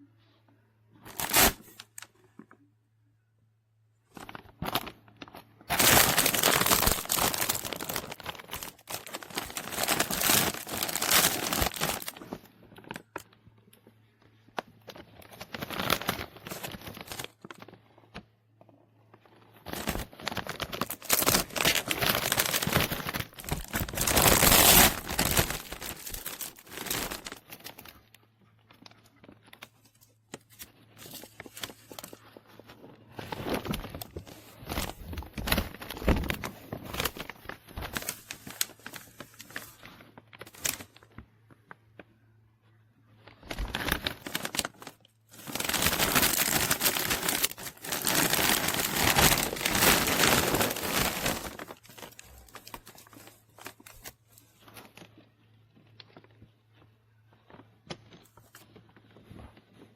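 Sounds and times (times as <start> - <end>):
rustling and crinkling: 4.0 - 59.9.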